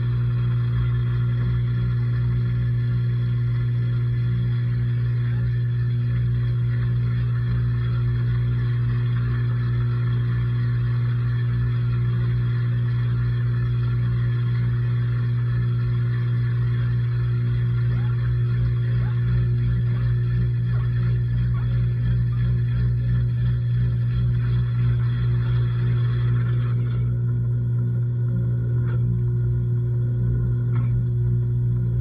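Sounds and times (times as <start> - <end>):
washing machine humming: 0.0 - 32.0.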